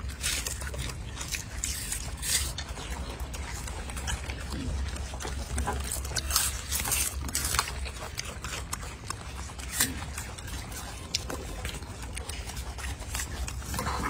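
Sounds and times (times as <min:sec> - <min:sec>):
monkeys chewing crunchy vegetables: 0:00.0 - 0:14.0.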